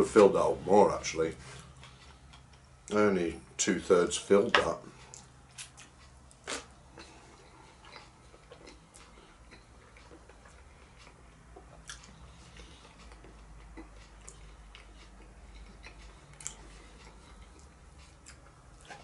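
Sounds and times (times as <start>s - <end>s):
person chewing food: 1.5s - 3.0s, 4.9s - 19.0s.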